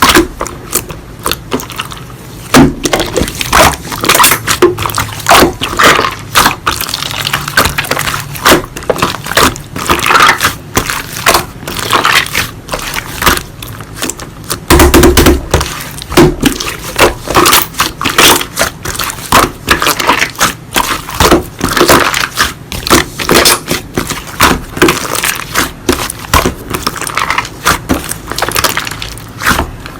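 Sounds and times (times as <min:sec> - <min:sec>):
slime squishing and crackling: 0:00.0 - 0:29.9.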